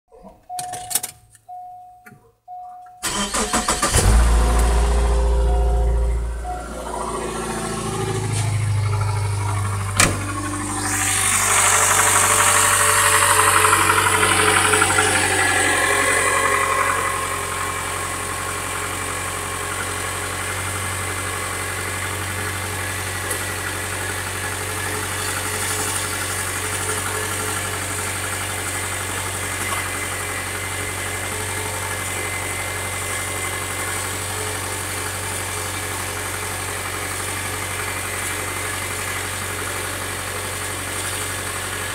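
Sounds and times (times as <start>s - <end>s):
car engine idling with knock: 3.9s - 41.9s.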